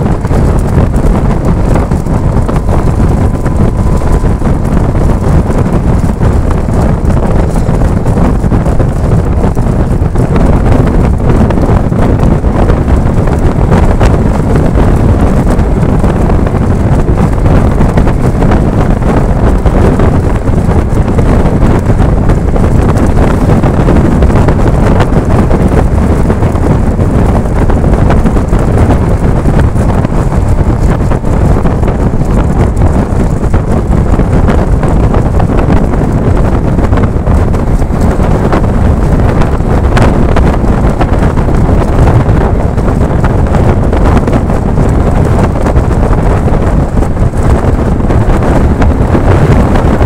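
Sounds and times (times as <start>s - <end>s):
vehicle rumble at highway speed: 0.0s - 50.0s
wind buffeting microphone: 0.0s - 50.0s.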